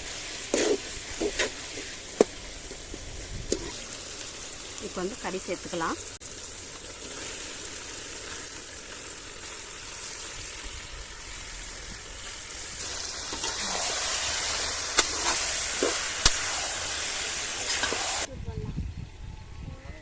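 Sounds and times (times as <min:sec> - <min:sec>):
meat sizzling in hot oil: 0:00.0 - 0:18.3.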